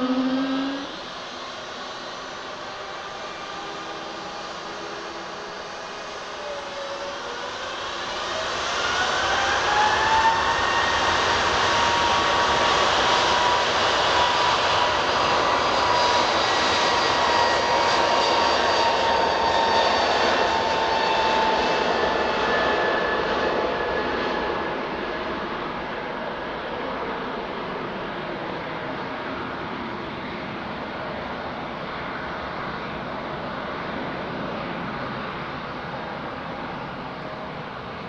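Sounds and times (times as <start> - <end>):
jet engines whining and rushing: 0.0 - 38.0.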